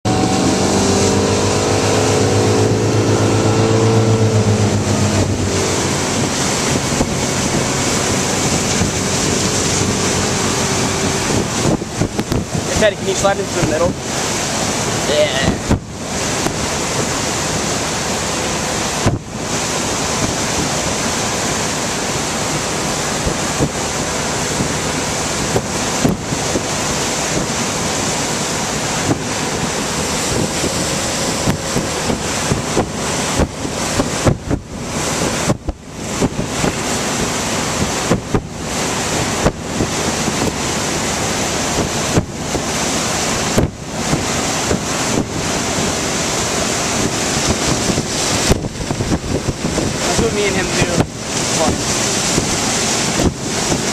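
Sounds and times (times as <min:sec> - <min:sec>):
boat wake rushing: 0:00.0 - 0:53.9
wind buffeting microphone: 0:00.0 - 0:53.9.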